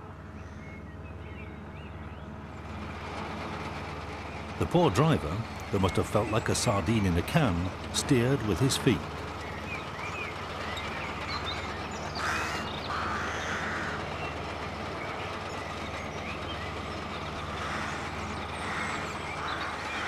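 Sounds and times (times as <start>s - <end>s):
tracked vehicle engine running: 0.0s - 20.0s.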